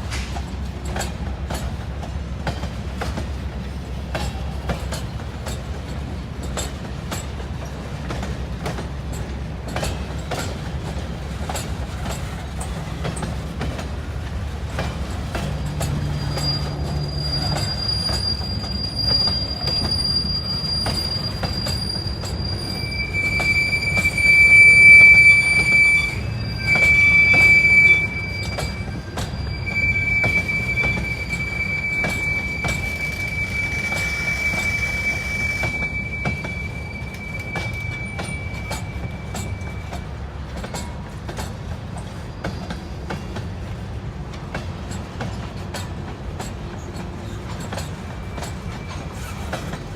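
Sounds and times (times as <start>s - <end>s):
train wheels clattering on rails: 0.0s - 49.9s
train wheels squealing: 0.0s - 49.9s.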